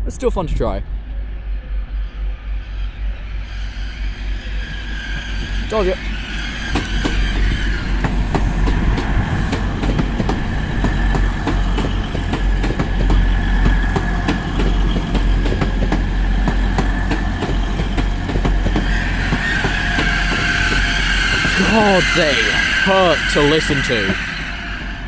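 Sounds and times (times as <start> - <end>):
train engines rumbling and whining: 0.8 - 25.0
wheels clicking over rail joints: 3.4 - 24.3.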